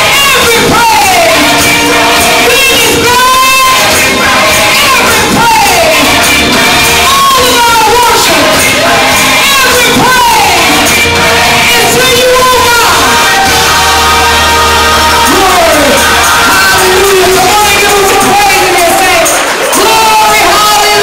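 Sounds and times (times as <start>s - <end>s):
congregation voices: 0.0s - 21.0s
held chords and bass: 0.0s - 21.0s
person singing gospel: 0.0s - 21.0s.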